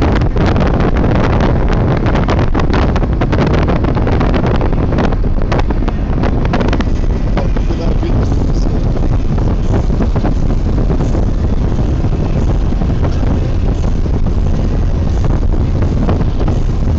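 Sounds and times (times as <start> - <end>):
road and wind noise inside car: 0.0 - 16.9.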